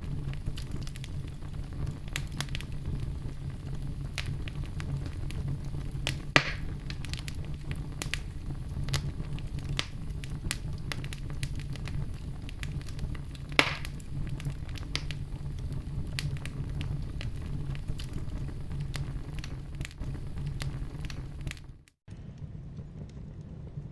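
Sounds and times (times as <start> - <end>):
fire burning with crackles: 0.0 - 23.9
fire pops: 0.0 - 23.9.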